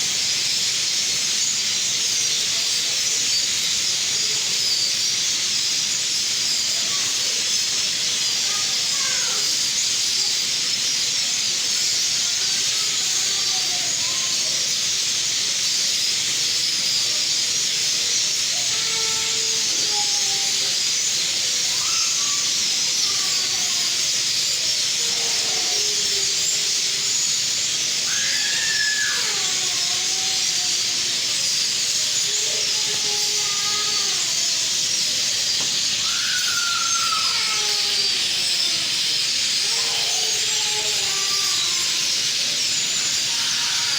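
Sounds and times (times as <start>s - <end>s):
flock of birds twittering: 0.0s - 43.9s.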